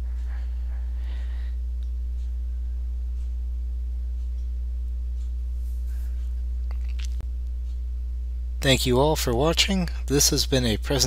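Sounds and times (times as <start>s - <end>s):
low electrical mains hum: 0.0s - 11.0s.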